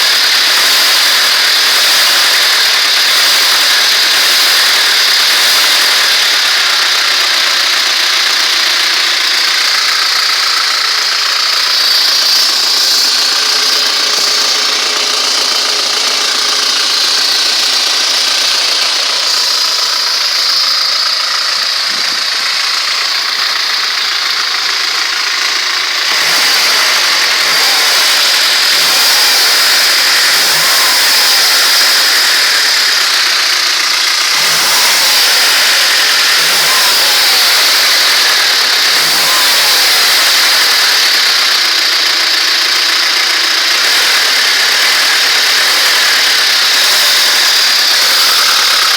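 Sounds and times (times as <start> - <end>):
petrol engine idling and revving: 0.0 - 48.9.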